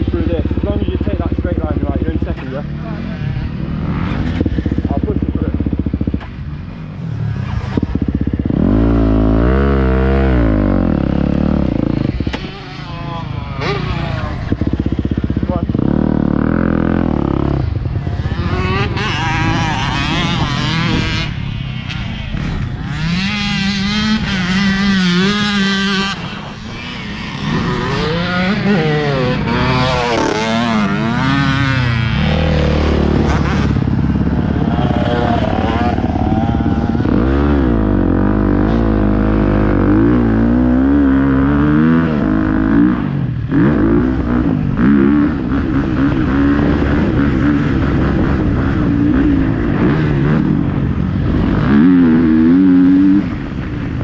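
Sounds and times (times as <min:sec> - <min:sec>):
motocross bike engine revving: 0:00.0 - 0:53.7.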